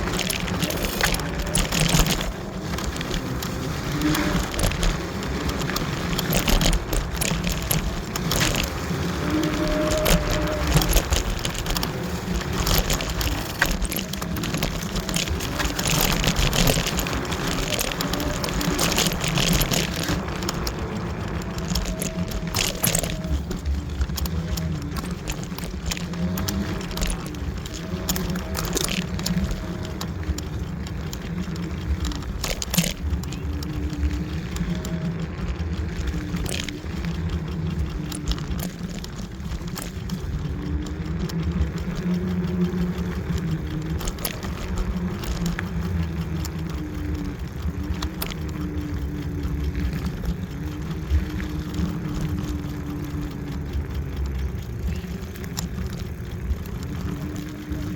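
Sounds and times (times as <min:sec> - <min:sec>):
clicks and rattles: 0:00.0 - 0:57.9
electric motor whine: 0:00.0 - 0:57.9
electric scooter rumbling: 0:00.0 - 0:57.9.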